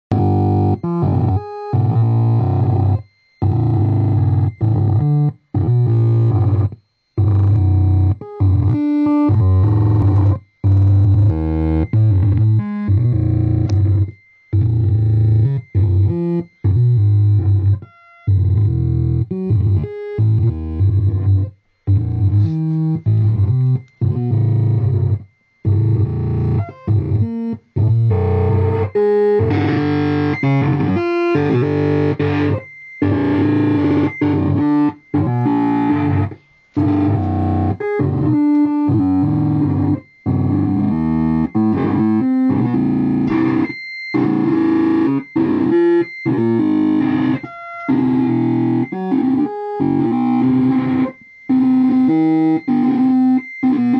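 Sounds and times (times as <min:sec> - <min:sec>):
processed electric guitar: 0:00.1 - 0:53.9.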